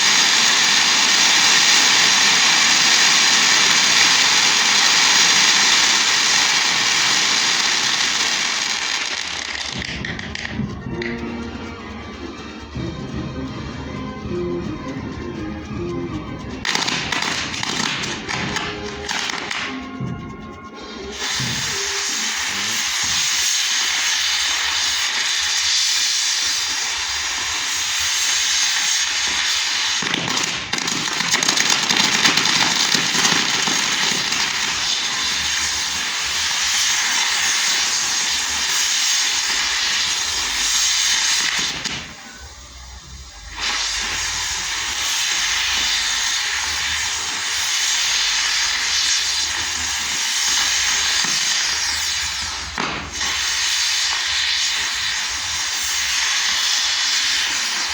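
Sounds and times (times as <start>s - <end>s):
fireworks hissing: 0.0s - 57.9s.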